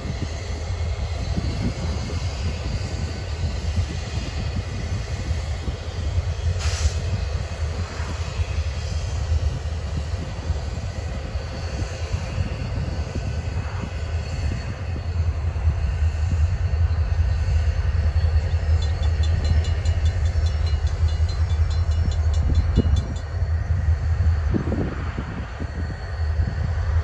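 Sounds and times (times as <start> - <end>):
diesel locomotive rumbling: 0.0 - 27.0.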